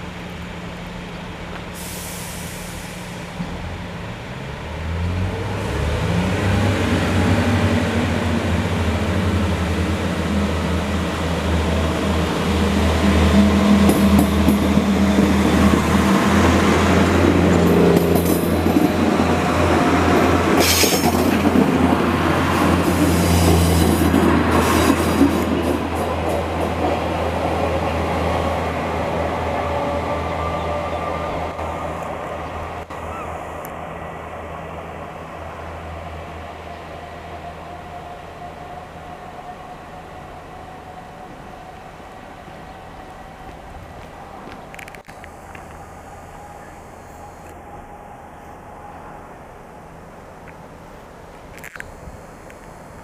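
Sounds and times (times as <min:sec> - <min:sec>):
diesel train engines droning: 0:00.0 - 0:53.0.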